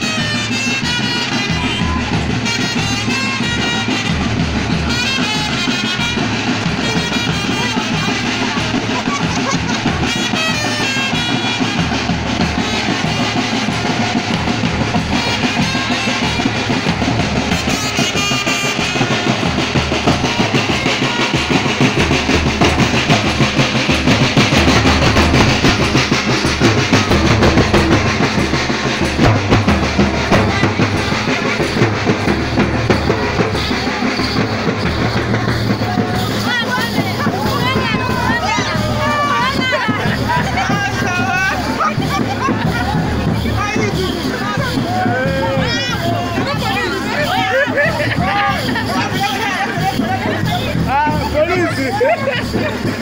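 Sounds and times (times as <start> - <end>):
marching snare and bass drums: 0.0 - 53.0.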